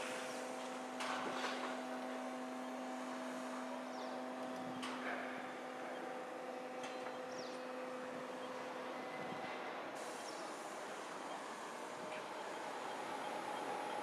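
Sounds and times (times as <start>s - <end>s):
crane humming: 0.0s - 14.0s.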